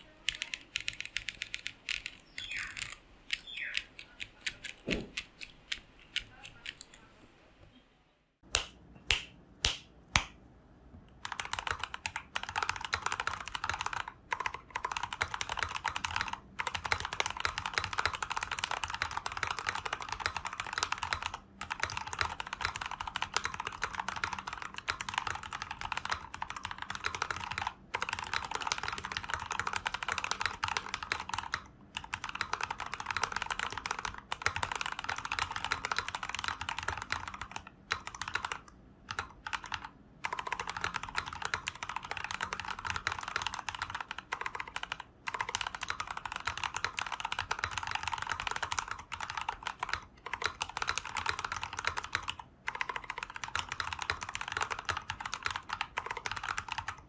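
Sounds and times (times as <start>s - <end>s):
mechanical keyboard typing: 0.0s - 7.0s, 11.2s - 57.0s.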